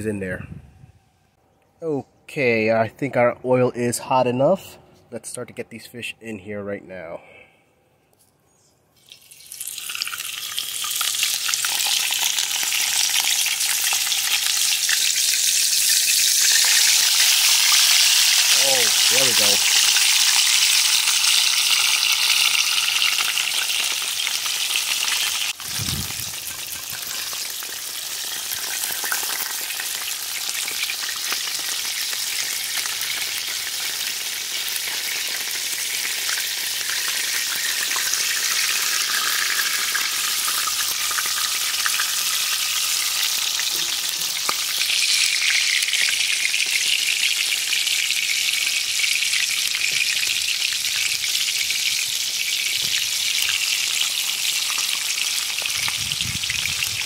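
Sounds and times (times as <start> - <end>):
oil sizzling and crackling: 9.0 - 57.0.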